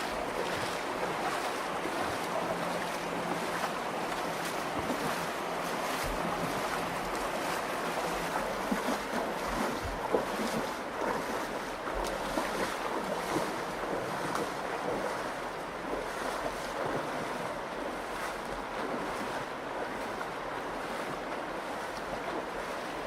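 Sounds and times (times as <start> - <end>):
river water rushing: 0.0 - 23.0
water splashing and trickling: 0.0 - 23.0.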